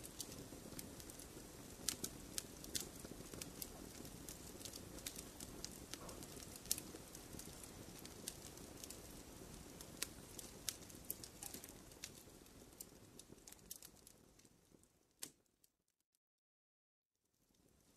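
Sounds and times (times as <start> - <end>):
low rumble of flames: 0.0 - 15.0
wood fire crackling and popping: 0.0 - 15.5.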